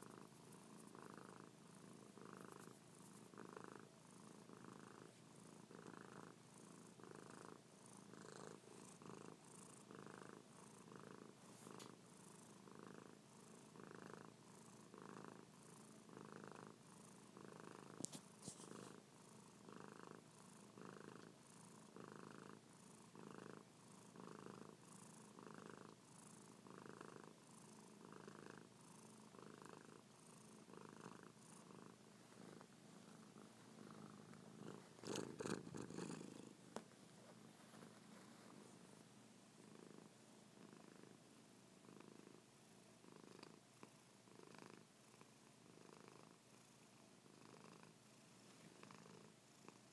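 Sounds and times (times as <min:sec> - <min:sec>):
cat purring: 0:00.0 - 0:49.9.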